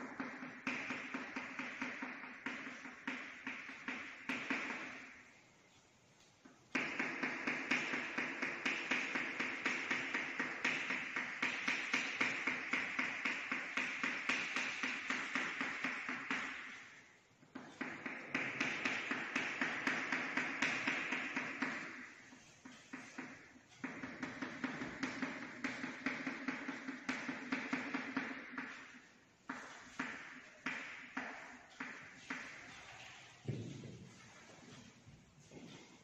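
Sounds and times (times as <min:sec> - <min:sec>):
chalk tapping on chalkboard: 0:00.0 - 0:05.3, 0:06.2 - 0:36.0.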